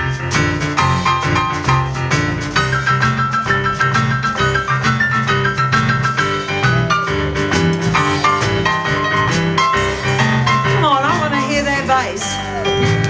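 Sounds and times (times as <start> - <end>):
electric stage piano runs: 0.0 - 13.0
steady percussive beat: 0.0 - 13.0
upright double bass walking: 0.0 - 13.0.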